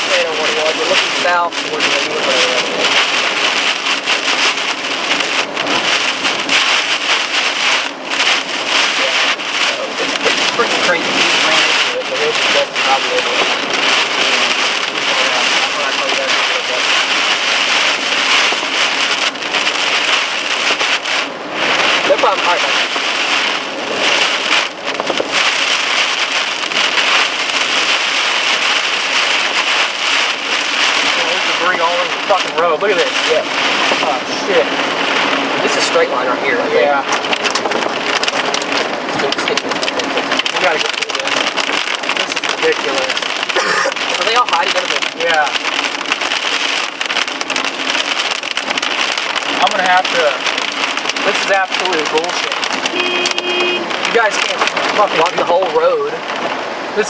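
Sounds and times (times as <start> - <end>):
heavy rain on a vehicle: 0.0 - 57.0.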